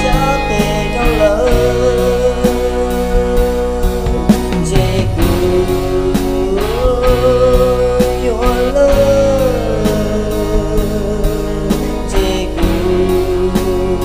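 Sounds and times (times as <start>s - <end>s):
pop song with singer and band: 0.0s - 14.0s.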